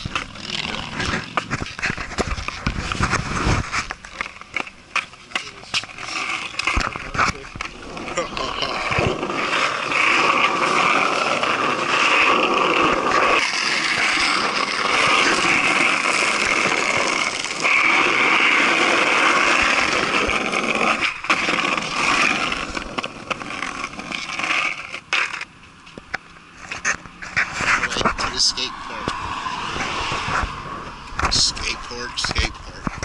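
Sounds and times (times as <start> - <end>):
skateboard clicks and knocks: 0.0 - 28.3, 29.0 - 33.0
skateboard wheels rolling on asphalt: 0.0 - 33.0.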